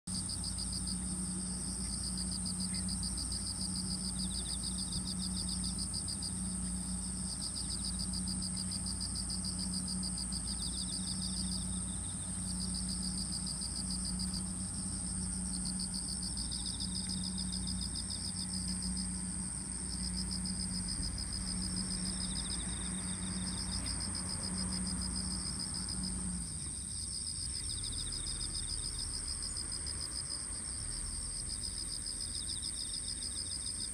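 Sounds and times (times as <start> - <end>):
high insect trill: 0.1 - 33.9
low pulsing hum: 0.1 - 33.9
lower pulsing insect trill: 0.1 - 33.9.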